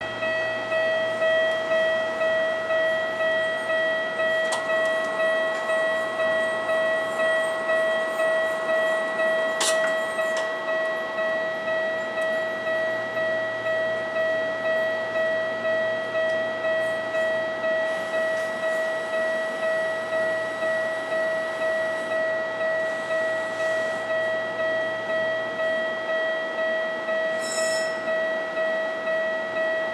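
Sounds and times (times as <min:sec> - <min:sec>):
level crossing warning bell: 0:00.0 - 0:29.9.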